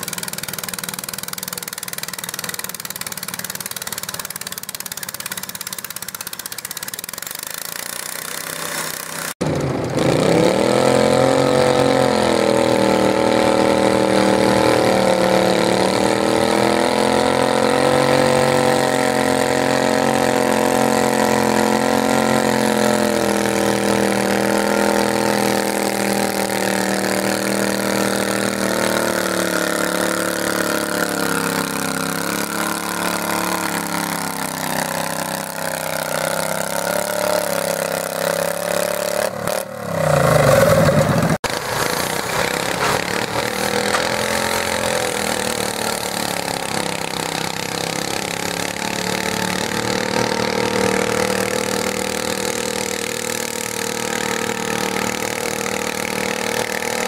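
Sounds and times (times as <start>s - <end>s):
garden tractor engine revving hard: 0.0s - 57.0s
garden tractor engine running: 0.0s - 57.0s.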